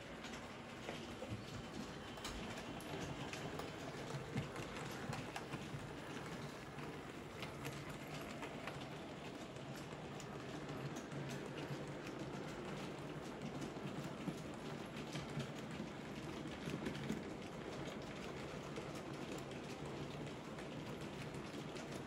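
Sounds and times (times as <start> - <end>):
model train rumbling on track: 0.0 - 22.0
wheels clicking: 0.1 - 22.0.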